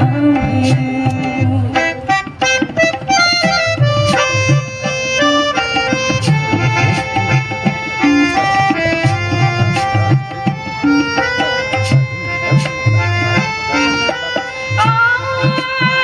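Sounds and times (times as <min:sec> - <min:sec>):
harmonium melody: 0:00.0 - 0:16.0
tabla rhythm: 0:00.0 - 0:16.0.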